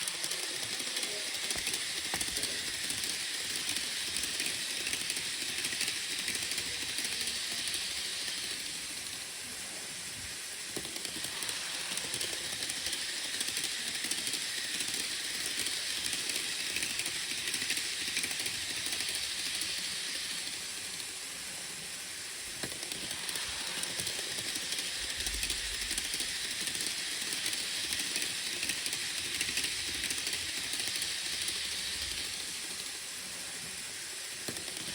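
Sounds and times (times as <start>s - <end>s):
model train running on track: 0.0s - 34.9s.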